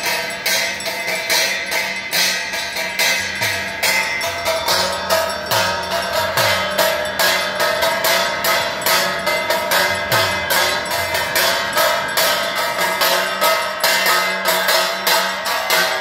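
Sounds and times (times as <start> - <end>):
bells and hand cymbals struck: 0.0 - 16.0
instrumental or chanted bed: 0.0 - 16.0.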